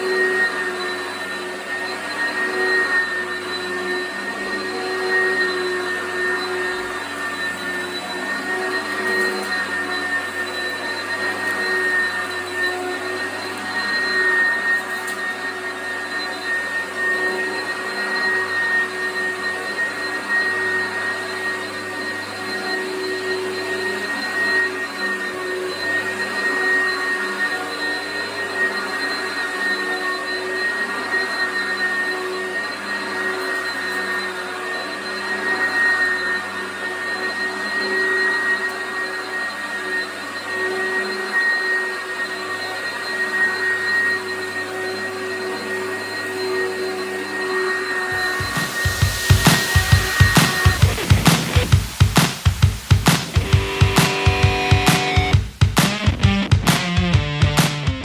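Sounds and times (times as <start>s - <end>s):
vacuum cleaner running: 0.0s - 57.6s.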